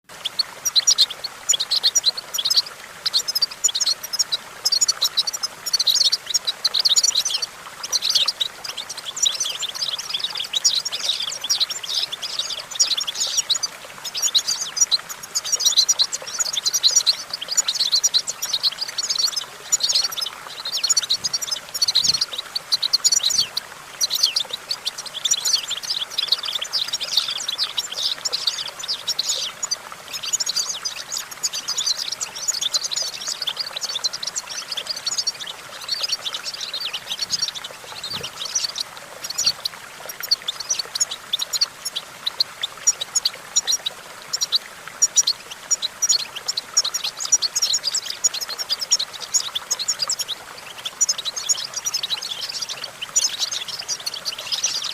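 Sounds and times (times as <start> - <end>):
goldfinch twittering song: 0.1 - 54.9.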